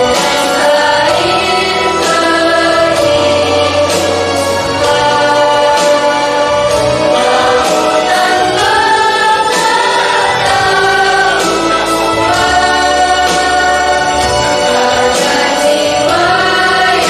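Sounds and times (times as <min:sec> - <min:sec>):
instrumental accompaniment: 0:00.0 - 0:17.0
mixed choir singing: 0:00.0 - 0:17.0.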